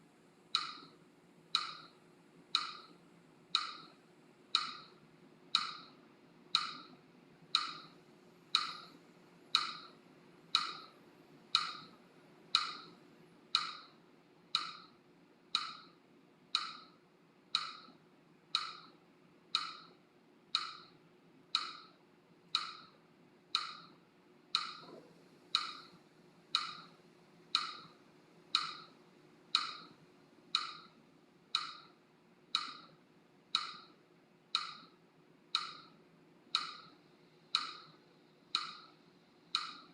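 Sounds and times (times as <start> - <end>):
woody ticking clicks: 0.5 - 39.9.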